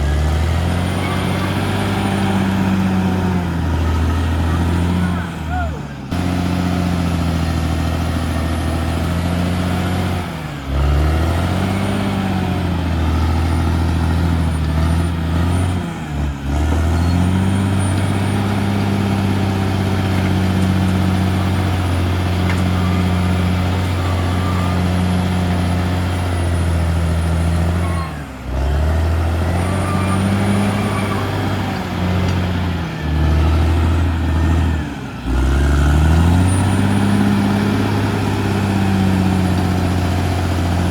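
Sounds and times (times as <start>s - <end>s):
bulldozer diesel engine working: 0.0s - 40.9s.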